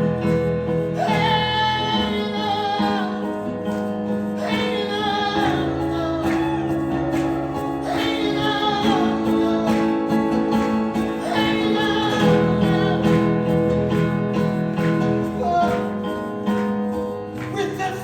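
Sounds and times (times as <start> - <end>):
people singing: 0.0 - 18.0.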